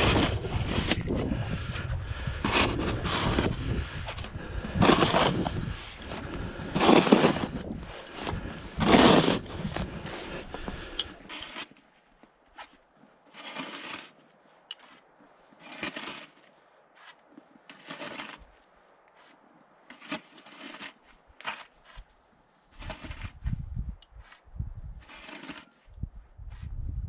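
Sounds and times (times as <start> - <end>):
snow shovel scraping snow: 0.0 - 1.3, 2.4 - 23.5, 25.0 - 25.8.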